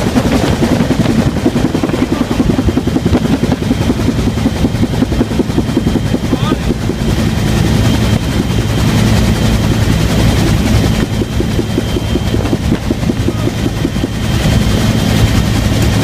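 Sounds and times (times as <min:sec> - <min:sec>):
helicopter rotor blades beating: 0:00.0 - 0:16.0
turbine drone: 0:00.0 - 0:16.0.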